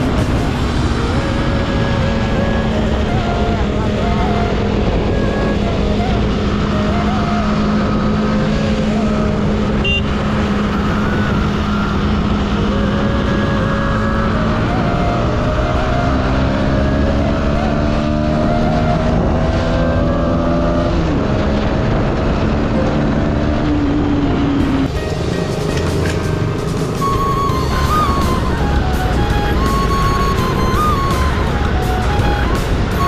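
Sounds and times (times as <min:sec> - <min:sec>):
low rush of wind: 0:00.0 - 0:33.0
motorcycle engine hum: 0:00.0 - 0:33.0.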